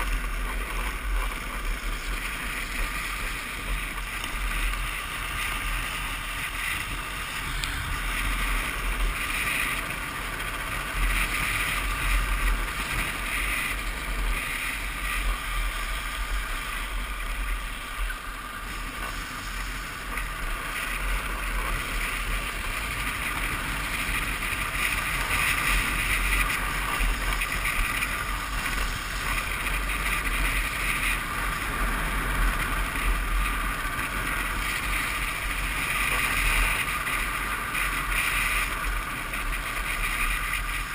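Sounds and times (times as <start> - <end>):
plastic wheels sliding on asphalt: 0.0 - 40.9
wind buffeting microphone: 0.0 - 40.9.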